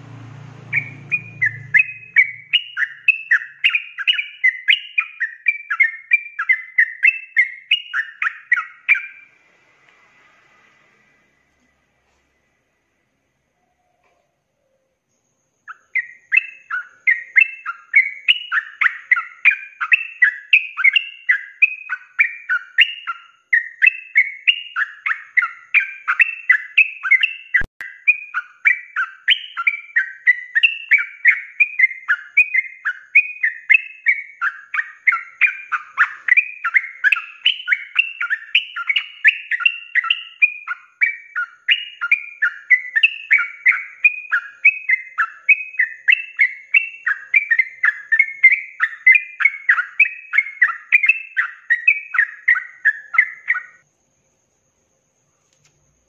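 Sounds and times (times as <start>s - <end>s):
bulbul singing: 0.0s - 9.4s, 13.4s - 54.0s.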